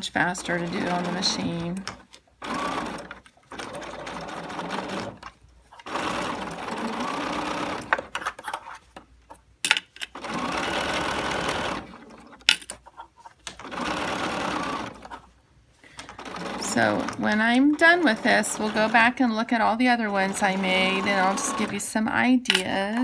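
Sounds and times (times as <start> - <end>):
sewing machine stitching: 0.0 - 8.6, 10.1 - 15.3, 16.0 - 22.0.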